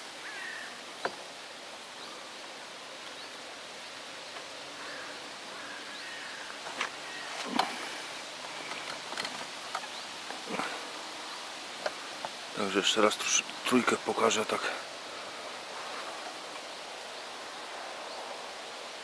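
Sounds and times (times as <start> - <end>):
rustling hiss: 0.0 - 19.0.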